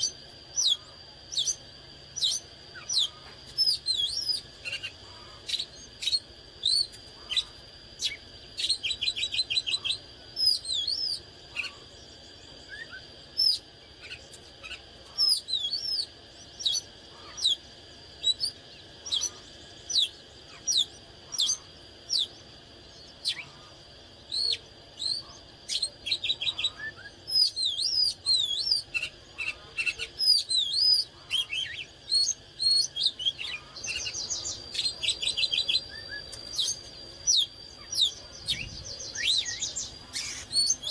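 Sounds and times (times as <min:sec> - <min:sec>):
bird singing whistles and trills: 0:00.0 - 0:40.9
steady high-pitched tone: 0:00.0 - 0:40.9.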